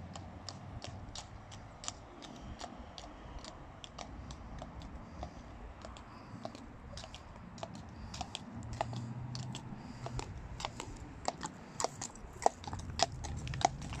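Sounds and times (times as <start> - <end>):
horse hooves on tarmac: 0.0 - 14.0.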